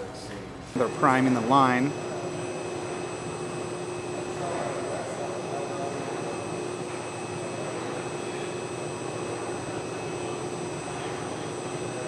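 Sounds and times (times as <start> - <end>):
pump whining steadily: 0.0 - 12.0.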